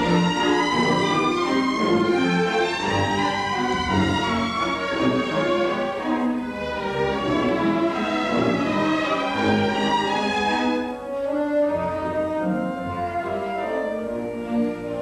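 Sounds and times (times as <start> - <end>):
orchestral strings sustained notes: 0.0 - 15.0.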